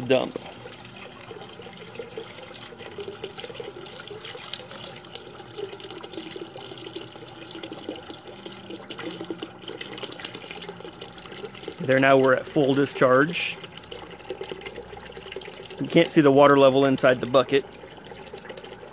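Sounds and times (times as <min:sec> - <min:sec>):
water pouring and gurgling: 0:00.0 - 0:18.9.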